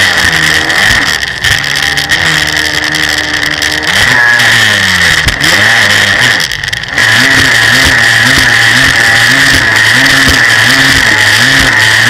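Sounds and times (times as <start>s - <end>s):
jet ski engine revving: 0.0s - 12.0s.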